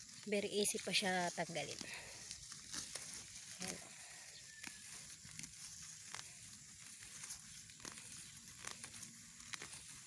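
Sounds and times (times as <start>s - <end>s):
faint outdoor background: 0.0s - 10.0s
rustling of leaves: 0.0s - 10.0s.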